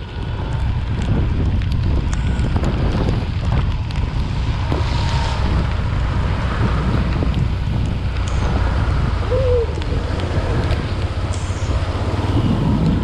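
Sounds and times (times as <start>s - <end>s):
raindrops ticking on camera: 0.0s - 13.0s
wind buffeting microphone: 0.0s - 13.0s.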